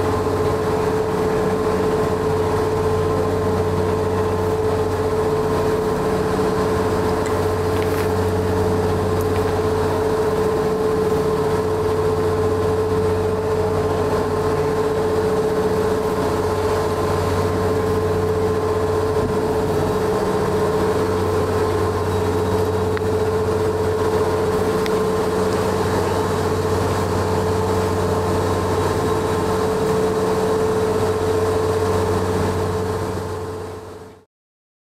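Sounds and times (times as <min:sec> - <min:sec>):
ferry engine drone with whine: 0:00.0 - 0:34.3.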